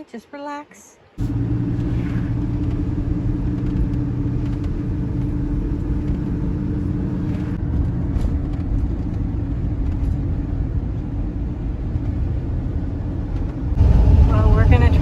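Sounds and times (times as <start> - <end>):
vehicle engine and road noise: 1.2 - 15.0.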